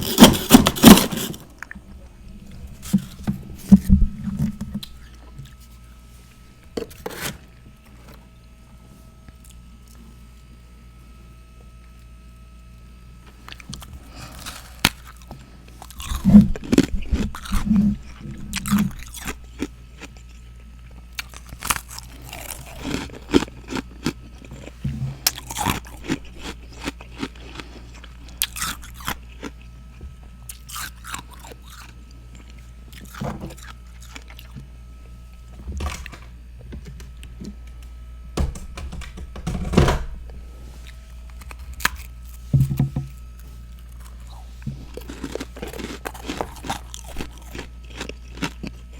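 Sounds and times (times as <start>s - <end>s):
person chewing crunchy frost: 0.0s - 7.8s, 9.2s - 10.4s, 13.2s - 36.5s, 40.3s - 48.9s.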